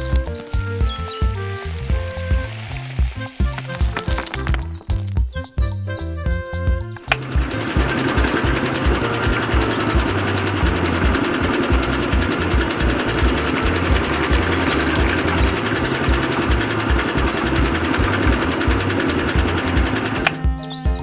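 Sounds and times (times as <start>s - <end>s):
small electric motor running: 0.0s - 4.6s, 7.0s - 20.4s.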